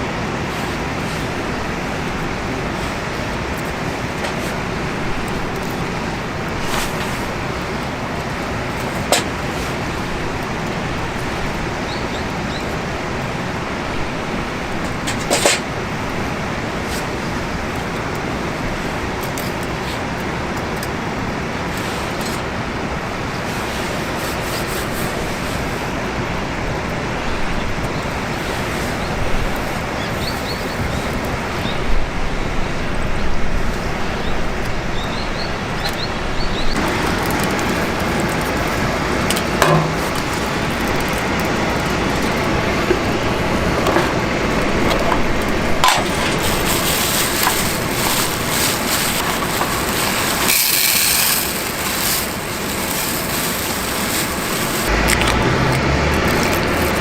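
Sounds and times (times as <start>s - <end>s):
campfire crackling: 0.0s - 30.6s, 36.8s - 55.1s.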